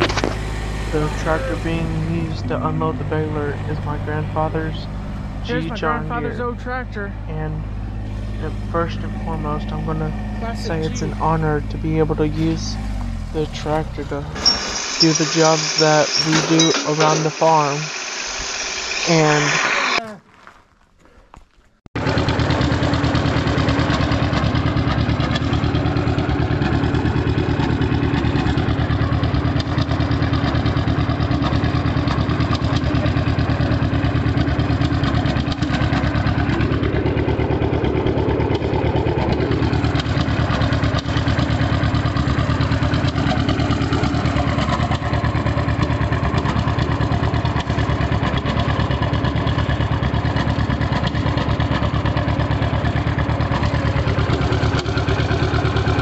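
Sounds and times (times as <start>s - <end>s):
two-cylinder engine running: 0.0s - 20.0s, 22.0s - 56.0s.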